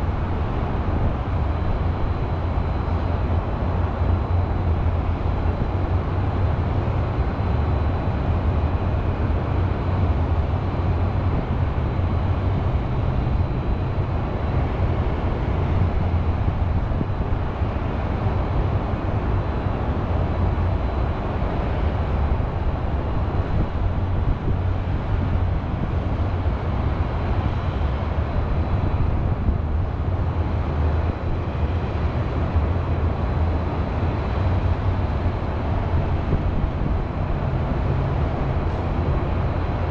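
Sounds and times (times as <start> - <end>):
distant highway traffic hum: 0.0 - 39.9.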